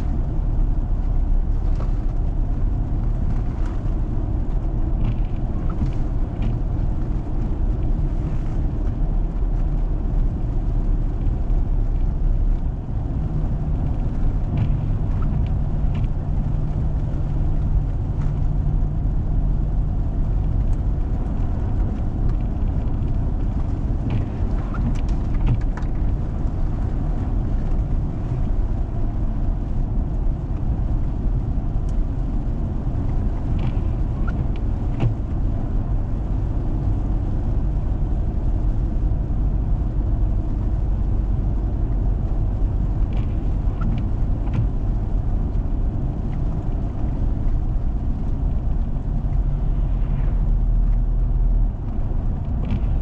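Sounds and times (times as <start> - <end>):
vehicle engine and tyres rumbling: 0.0 - 53.0.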